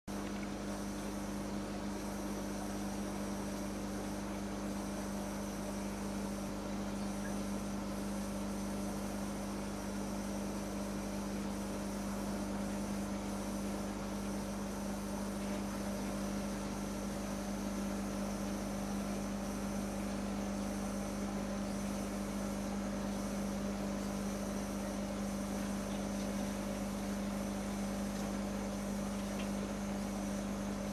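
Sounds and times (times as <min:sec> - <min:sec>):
aquarium equipment humming: 0:00.1 - 0:30.9.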